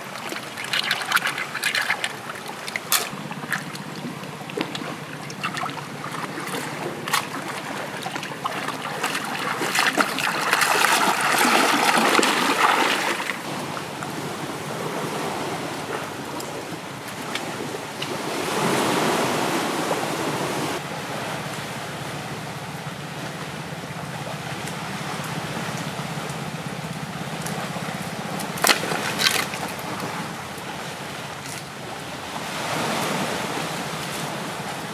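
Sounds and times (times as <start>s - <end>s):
seawater washing among rocks: 0.0s - 34.9s
small waves lapping: 0.0s - 34.9s.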